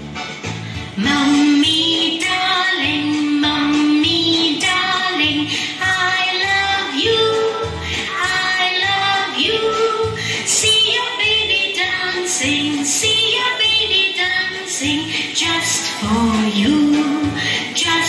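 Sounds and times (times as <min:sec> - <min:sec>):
children's song: 0:00.7 - 0:18.0.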